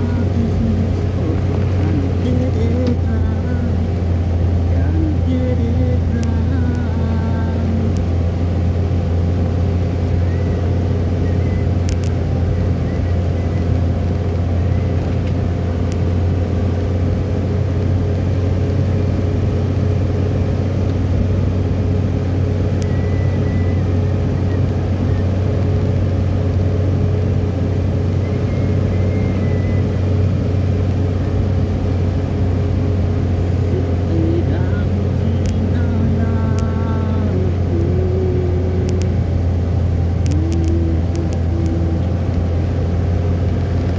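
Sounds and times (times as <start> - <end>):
vehicle engine and road noise: 0.0 - 43.9.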